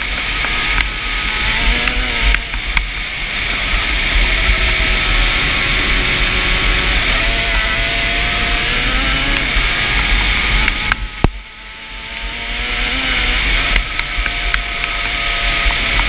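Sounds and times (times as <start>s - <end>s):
two-stroke engine running hard: 0.0s - 16.0s.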